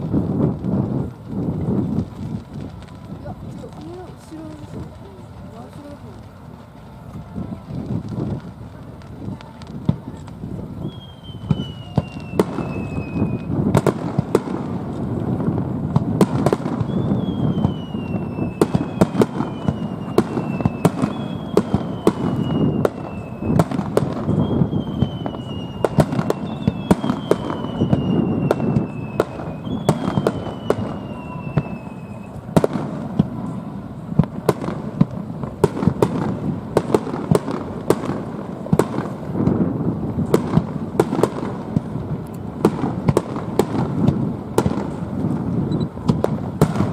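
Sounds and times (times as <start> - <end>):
continuous rumble: 0.0 - 46.9
fireworks bangs and crackling: 0.0 - 46.9
fireworks falling whistles: 0.0 - 46.9.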